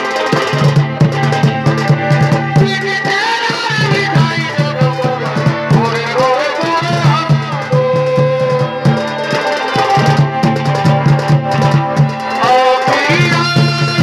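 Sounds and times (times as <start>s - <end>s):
drums steady rhythm: 0.0s - 14.0s
wavering melody: 0.0s - 14.0s.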